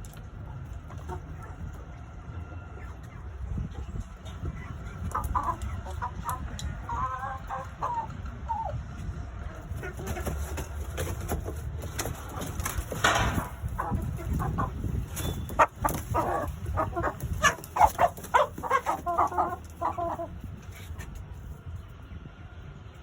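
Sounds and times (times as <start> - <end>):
chickens clucking: 0.0 - 21.9.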